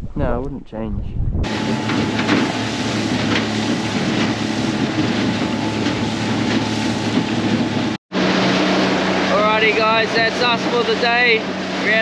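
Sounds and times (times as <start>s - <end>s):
rush of wind and water: 0.0s - 12.0s
outboard motor humming: 1.4s - 12.0s.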